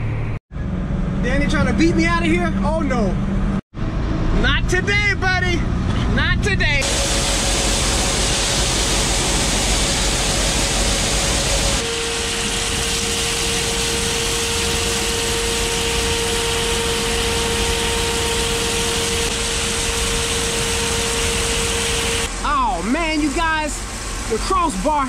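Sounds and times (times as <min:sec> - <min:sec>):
machine drone with low whine: 0:00.0 - 0:22.5.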